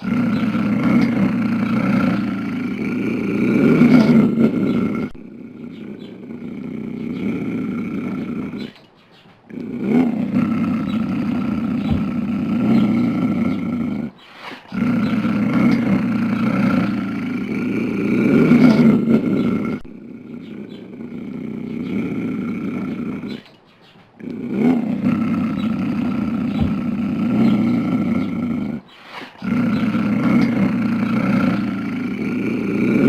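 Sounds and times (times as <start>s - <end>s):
mountain lion growling: 0.0s - 8.9s, 9.5s - 23.6s, 24.2s - 33.0s.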